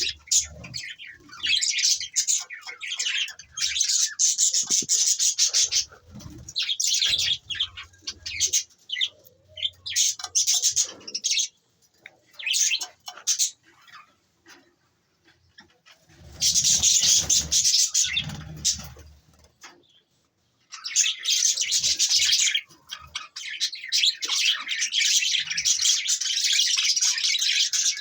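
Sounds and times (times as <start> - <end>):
budgerigars chirping: 0.0 - 11.5, 12.3 - 14.2, 16.1 - 19.1, 20.8 - 28.0.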